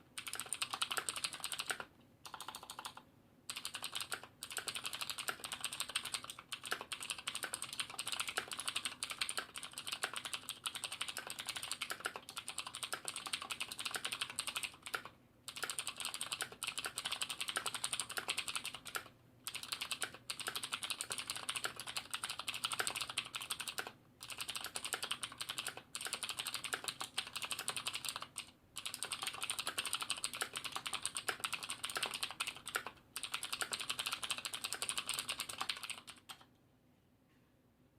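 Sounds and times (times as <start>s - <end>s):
fast typing on clicky keyboard: 0.2s - 36.5s.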